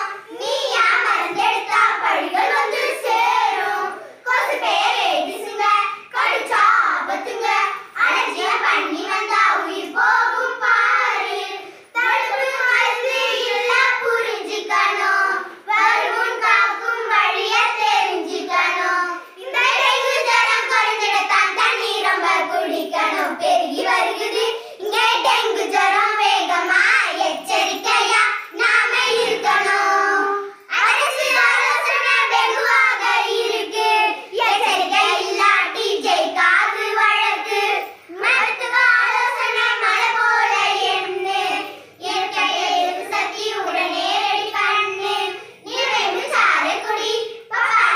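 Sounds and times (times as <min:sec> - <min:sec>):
girls singing together: 0:00.0 - 0:47.9.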